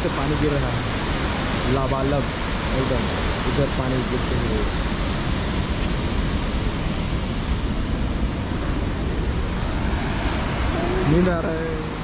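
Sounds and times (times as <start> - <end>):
waterfall and river roaring: 0.0 - 12.0.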